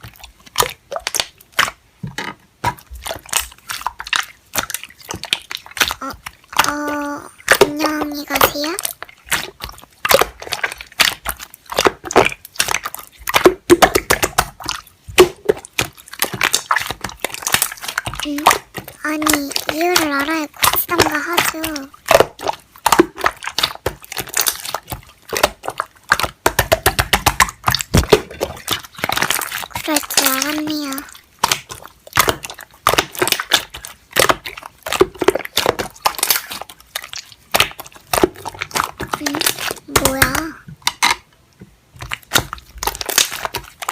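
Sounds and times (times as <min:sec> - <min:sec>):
slime squelching: 0:00.0 - 0:43.9.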